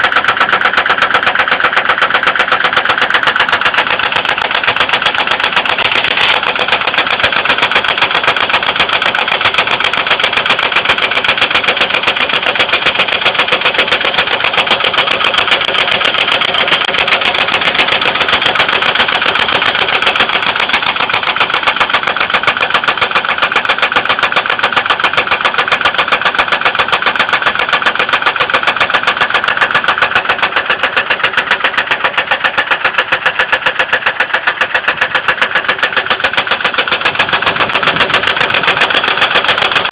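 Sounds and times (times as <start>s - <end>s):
engine running with knocking: 0.0s - 39.9s.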